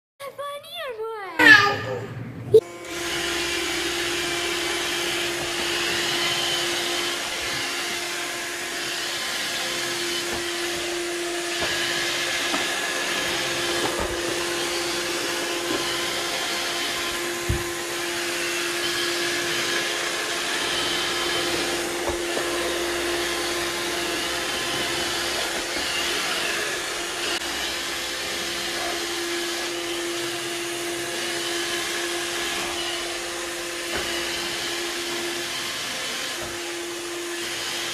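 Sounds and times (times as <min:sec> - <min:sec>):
robotic vacuum running: 0:01.4 - 0:37.9.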